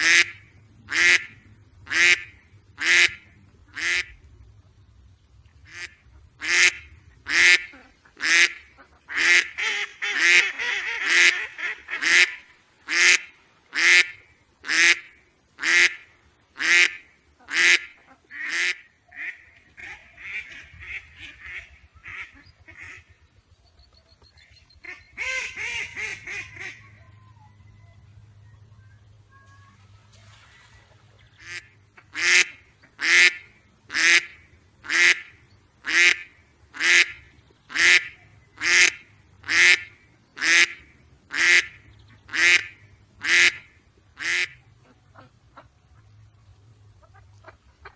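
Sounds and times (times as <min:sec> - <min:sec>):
duck quacking: 0:00.0 - 0:04.2, 0:05.7 - 0:23.2, 0:24.8 - 0:27.1, 0:31.3 - 0:46.1.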